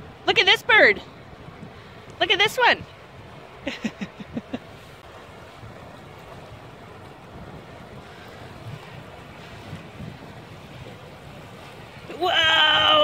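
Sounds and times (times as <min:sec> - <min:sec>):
small waves lapping on shore: 0:00.0 - 0:13.0
wind on microphone: 0:00.0 - 0:13.0.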